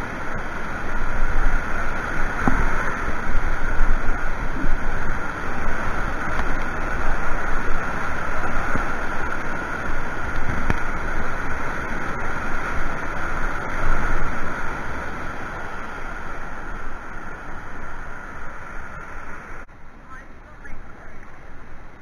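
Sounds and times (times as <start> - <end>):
white water rushing over a weir: 0.0 - 22.0.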